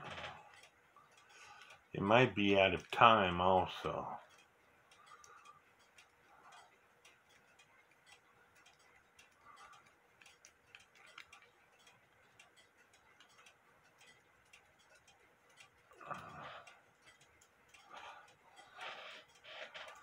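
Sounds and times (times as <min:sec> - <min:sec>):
clock escapement ticking: 0:00.0 - 0:20.0.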